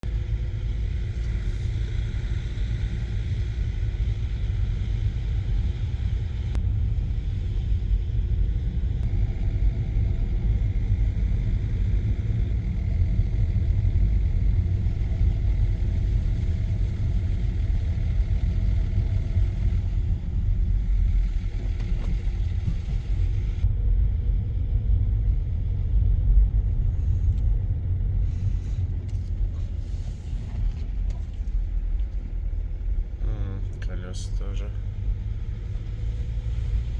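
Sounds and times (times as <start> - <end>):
diesel engine rumbling: 0.0 - 36.9.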